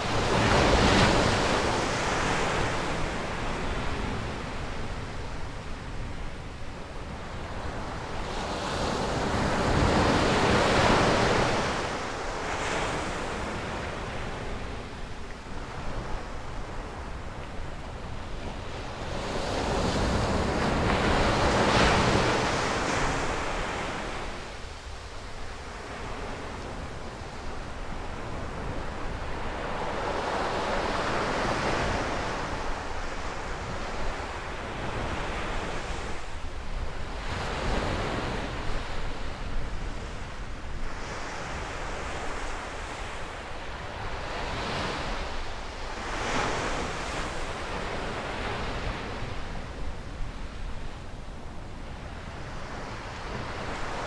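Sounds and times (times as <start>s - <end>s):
waves breaking on beach: 0.0s - 54.0s
wind on microphone: 0.0s - 54.0s.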